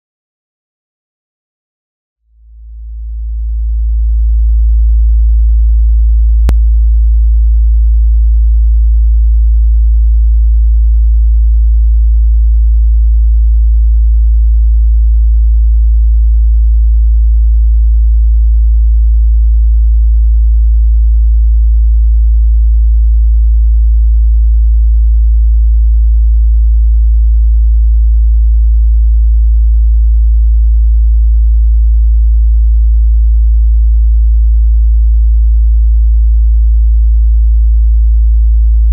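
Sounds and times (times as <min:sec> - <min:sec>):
low sine-wave test tone: 0:02.2 - 0:38.9.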